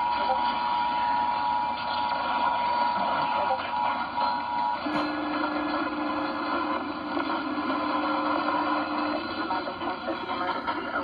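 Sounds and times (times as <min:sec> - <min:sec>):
radio static hiss: 0:02.2 - 0:11.0.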